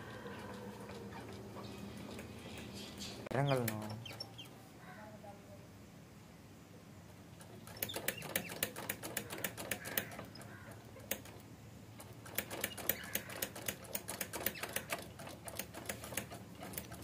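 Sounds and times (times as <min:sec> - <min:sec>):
rapid irregular clicking: 0:00.3 - 0:04.4, 0:07.3 - 0:17.0.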